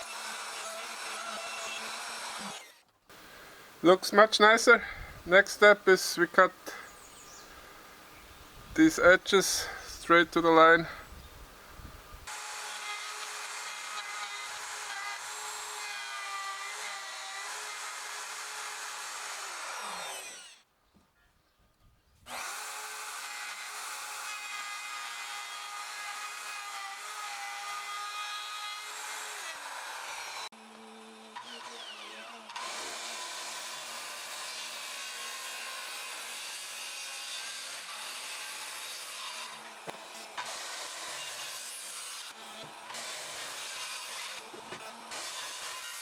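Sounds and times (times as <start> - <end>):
power tool cutting wood: 0.0 - 6.9, 11.8 - 20.6, 22.3 - 46.0.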